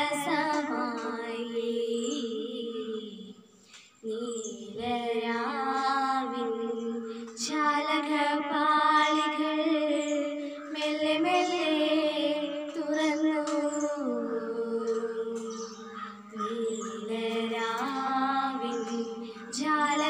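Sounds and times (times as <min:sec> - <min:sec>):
girl singing slow melody: 0:00.0 - 0:20.0.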